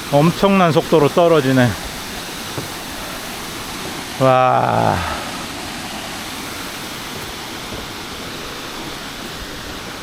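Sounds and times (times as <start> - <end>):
stream water cascading: 0.0 - 10.0.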